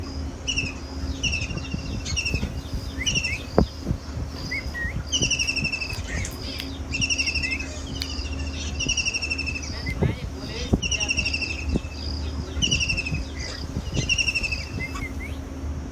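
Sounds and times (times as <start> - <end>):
birds trilling: 0.0 - 15.9
steady low hum: 0.0 - 15.9.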